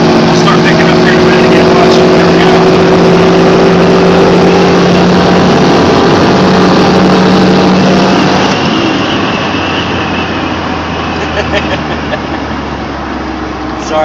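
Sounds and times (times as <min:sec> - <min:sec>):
engine at high revs: 0:00.0 - 0:14.0.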